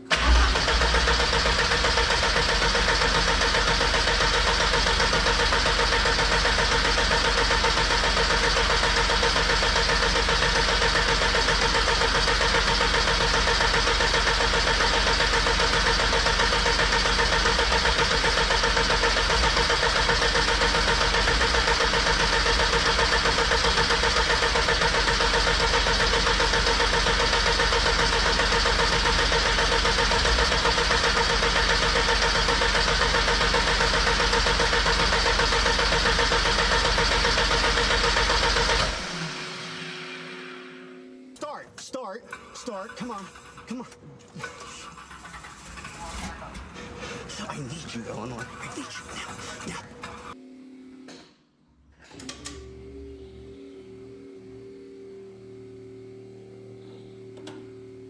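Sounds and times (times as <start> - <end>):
engine cranking on starter motor: 0.0 - 40.8, 42.2 - 50.4, 52.0 - 53.3.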